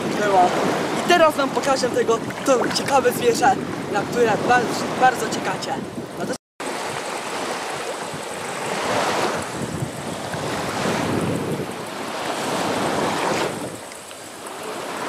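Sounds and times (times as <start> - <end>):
small waves washing in shallows: 0.0 - 15.0
wind buffeting microphone: 0.0 - 15.0.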